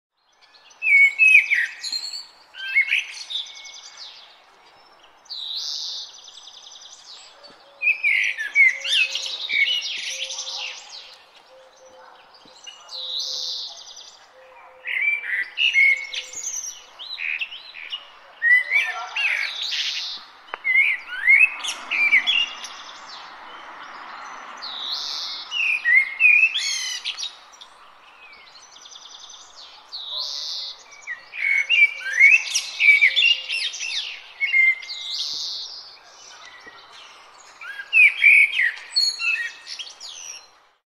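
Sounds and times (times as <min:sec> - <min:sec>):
songbirds singing: 0:00.1 - 0:40.8
faint background noise: 0:00.2 - 0:40.8.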